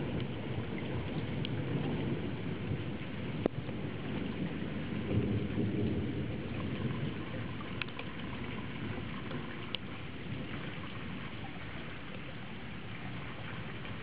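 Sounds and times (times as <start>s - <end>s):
low thunder rumble: 0.0s - 14.0s
steady rain falling: 0.0s - 14.0s.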